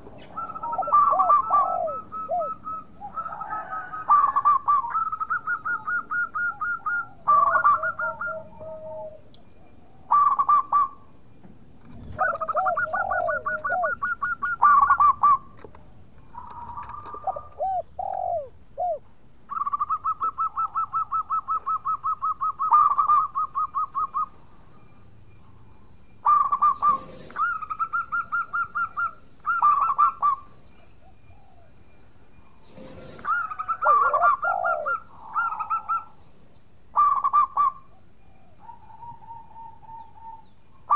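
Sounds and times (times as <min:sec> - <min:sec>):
dove cooing: 0:00.0 - 0:09.3, 0:10.0 - 0:11.0, 0:11.9 - 0:15.6, 0:16.3 - 0:24.4, 0:26.2 - 0:31.7, 0:32.6 - 0:36.2, 0:37.0 - 0:40.9.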